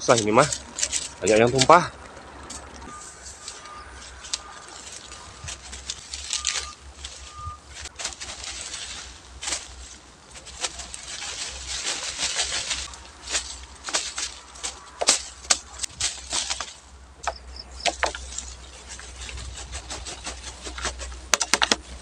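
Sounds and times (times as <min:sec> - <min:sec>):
branches crackling and snapping: 0:00.0 - 0:22.0
leaves and twigs rustling: 0:00.0 - 0:22.0.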